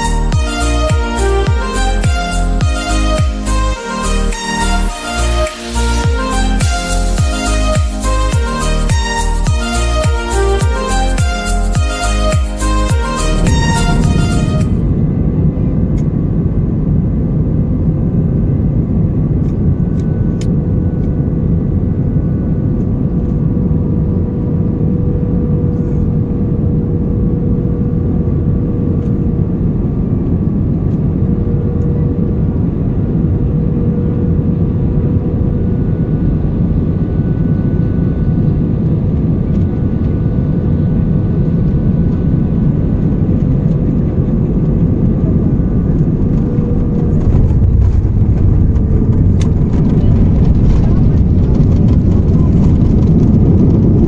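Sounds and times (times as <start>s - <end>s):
faint steady drone: 0.0s - 51.1s
aircraft cabin engine rumble: 0.0s - 54.0s.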